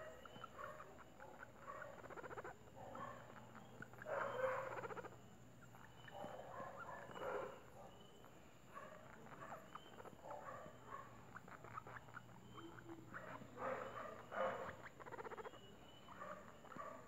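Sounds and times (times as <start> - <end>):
guinea pig purring: 0.0 - 7.2, 8.9 - 17.0.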